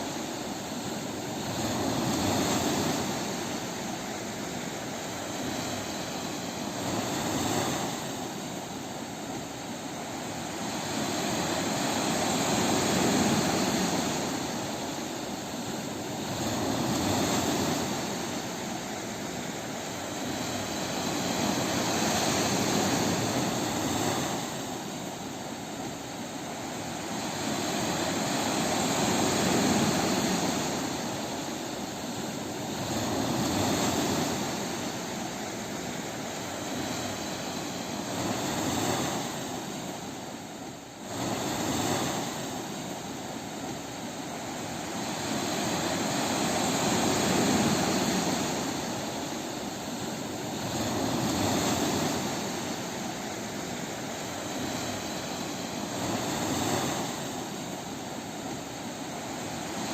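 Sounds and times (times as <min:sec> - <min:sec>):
ocean waves on a beach: 0:00.0 - 0:59.9.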